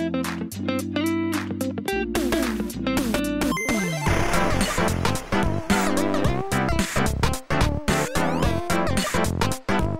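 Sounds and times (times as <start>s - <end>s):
upbeat electronic music: 0.0s - 9.9s.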